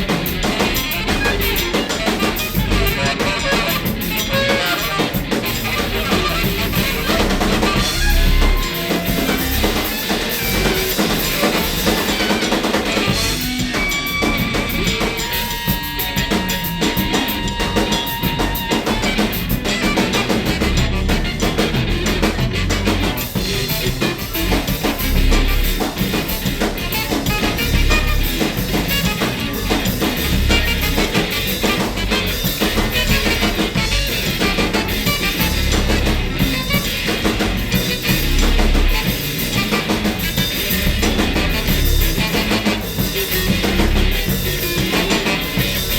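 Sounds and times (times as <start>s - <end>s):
free jazz band improvising: 0.0s - 45.9s
heavy bass drum thumps: 0.0s - 45.9s.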